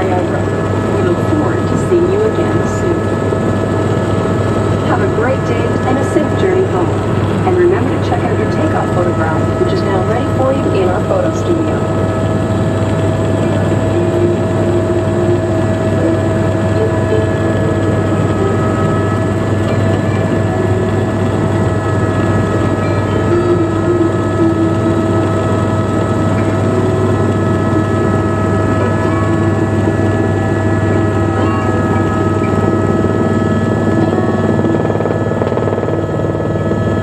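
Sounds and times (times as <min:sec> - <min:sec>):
helicopter engine and rotor drone: 0:00.0 - 0:37.0
whining tones: 0:00.0 - 0:37.0.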